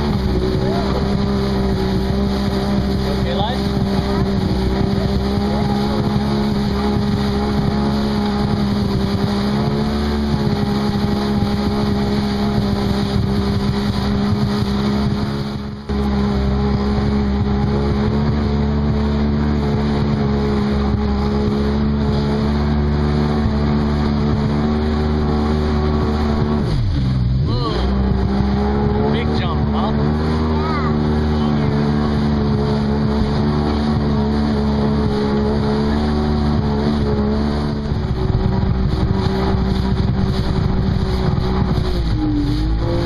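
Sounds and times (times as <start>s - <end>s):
jet ski engine running: 0.0s - 43.0s.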